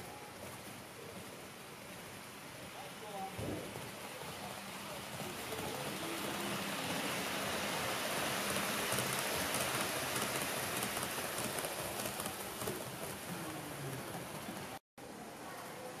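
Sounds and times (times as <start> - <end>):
model train wheels on rails: 0.0 - 14.8.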